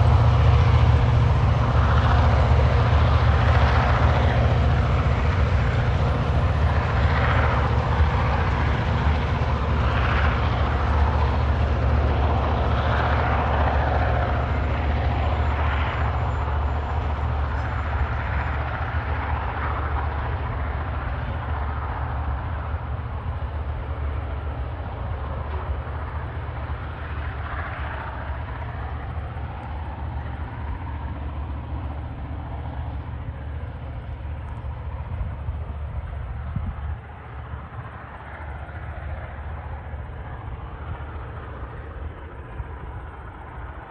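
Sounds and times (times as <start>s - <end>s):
diesel locomotive engine rumble: 0.0s - 43.9s.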